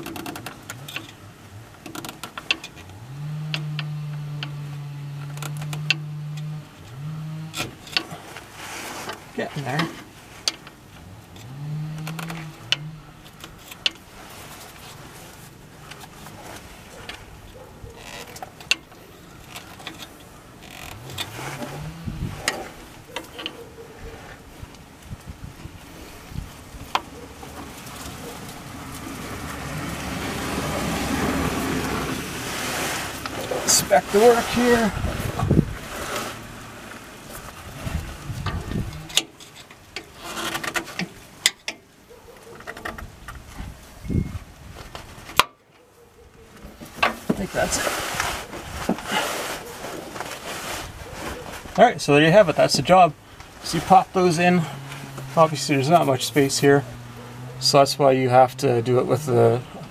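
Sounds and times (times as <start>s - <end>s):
hand tools clicking and scraping: 0.0s - 59.9s.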